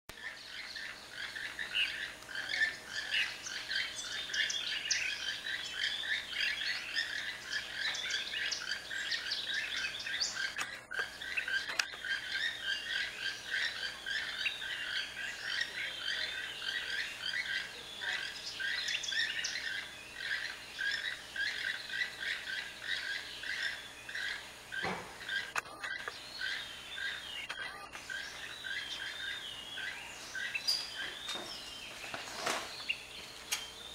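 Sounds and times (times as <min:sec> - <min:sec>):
toucans croaking calls: 0:00.1 - 0:33.9.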